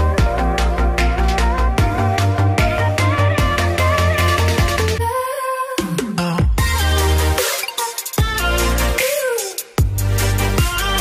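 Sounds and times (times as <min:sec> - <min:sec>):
electronic music with deep bass: 0:00.0 - 0:05.2, 0:05.8 - 0:11.0.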